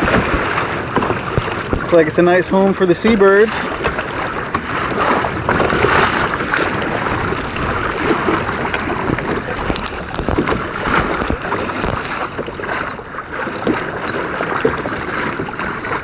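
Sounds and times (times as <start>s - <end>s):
water splashing against a hull: 0.0s - 16.0s
wind rumbling on the microphone: 0.0s - 16.0s.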